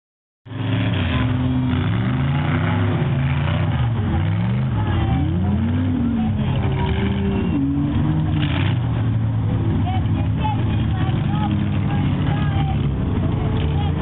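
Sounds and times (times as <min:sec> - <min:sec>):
truck engine revving: 0:00.5 - 0:14.0.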